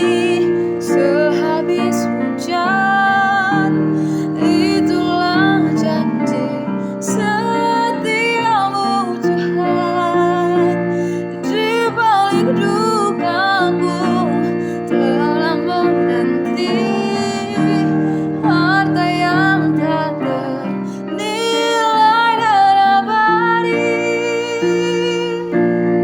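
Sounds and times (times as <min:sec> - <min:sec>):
woman singing gospel: 0:00.0 - 0:25.6
piano chords: 0:00.0 - 0:26.0.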